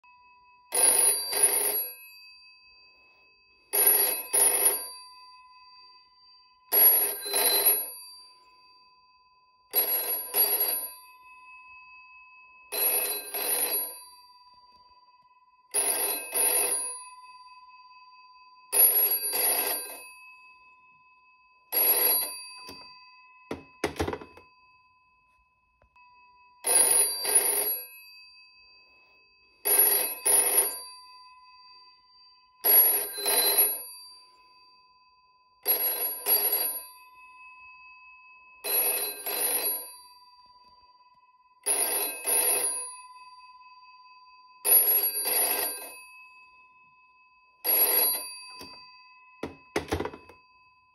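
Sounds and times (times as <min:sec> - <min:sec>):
telephone bell double ring: 0:00.6 - 0:17.8, 0:18.6 - 0:21.0, 0:21.6 - 0:24.8, 0:26.6 - 0:34.9, 0:35.6 - 0:37.9, 0:38.6 - 0:43.7, 0:44.6 - 0:46.8, 0:47.6 - 0:50.9.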